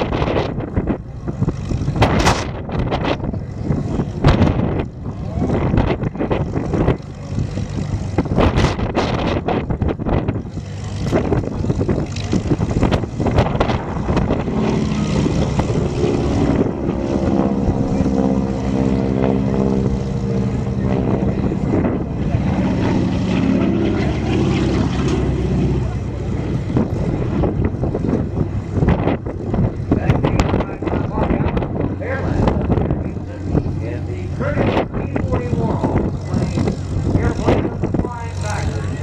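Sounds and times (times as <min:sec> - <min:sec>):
propeller plane engine drone: 0:00.0 - 0:39.0
wind buffeting microphone: 0:00.0 - 0:39.0.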